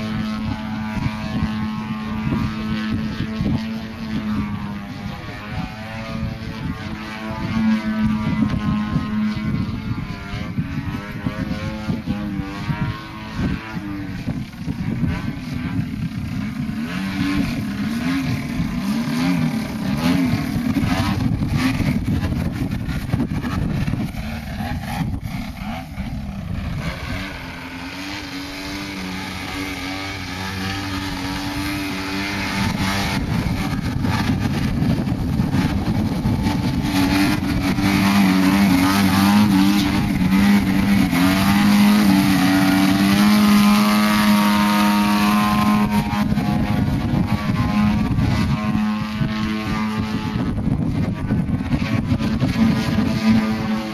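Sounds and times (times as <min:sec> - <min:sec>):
model airplane engine: 0:00.0 - 0:53.9.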